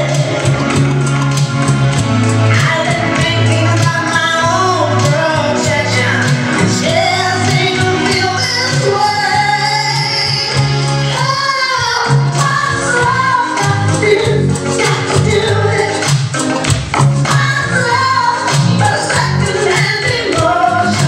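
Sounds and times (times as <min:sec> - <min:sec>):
pop song with lead vocal: 0:00.0 - 0:21.0
steady bass line: 0:00.0 - 0:21.0.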